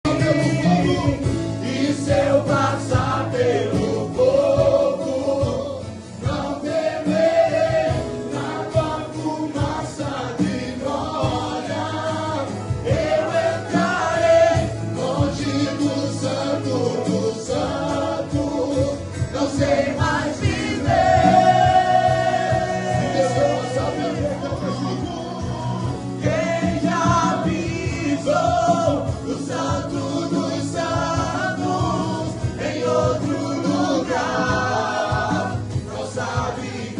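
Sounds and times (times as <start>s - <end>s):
gospel choir singing: 0.0s - 36.9s
instrumental accompaniment: 0.0s - 36.9s.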